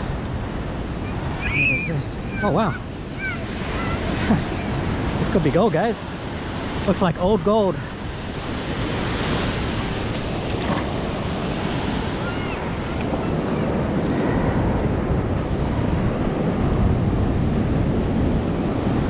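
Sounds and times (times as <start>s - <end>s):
surf washing over shallows: 0.0s - 19.0s
wind buffeting microphone: 0.0s - 19.0s.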